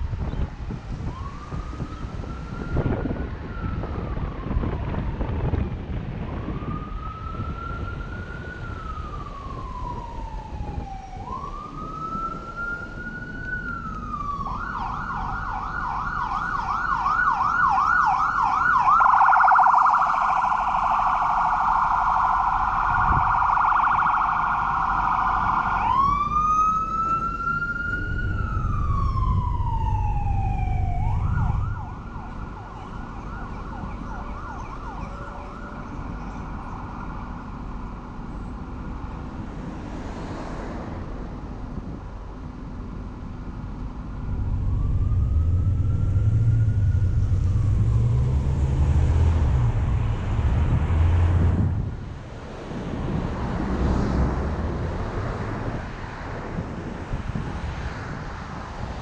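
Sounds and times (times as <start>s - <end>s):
car road noise: 0.0s - 59.0s
emergency vehicle siren: 0.0s - 59.0s.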